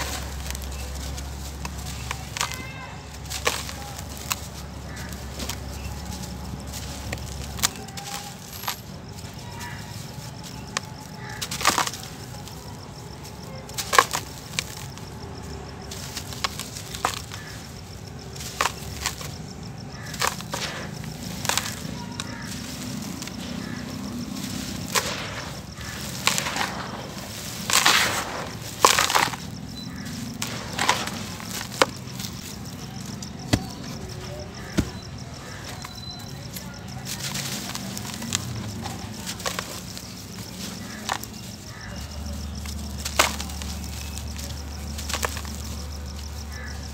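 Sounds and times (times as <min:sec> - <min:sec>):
hands crushing dirt clods: 0:00.0 - 0:46.9
loose dirt crumbling: 0:00.0 - 0:46.9.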